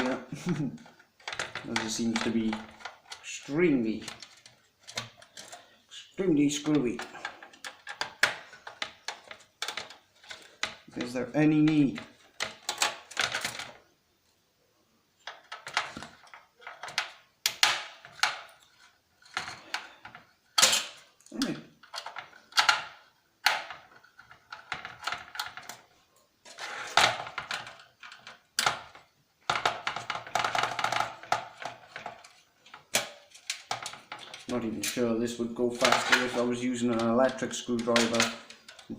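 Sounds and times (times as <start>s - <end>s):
metal parts being set down: 0.0s - 5.9s, 6.5s - 13.8s, 15.2s - 38.9s.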